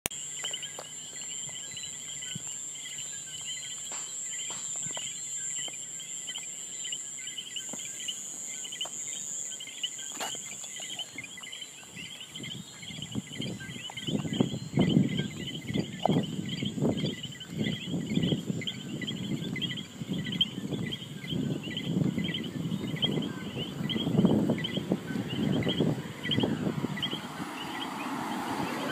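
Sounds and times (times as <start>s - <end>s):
steady high-pitched whine: 0.1s - 28.9s
frogs calling in chorus: 0.2s - 28.9s.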